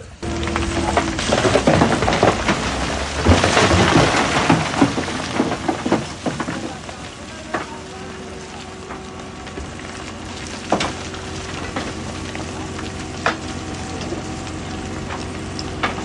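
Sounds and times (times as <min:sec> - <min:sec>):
steady machine hum: 0:00.0 - 0:16.0
stone clattering in crusher: 0:00.2 - 0:16.0.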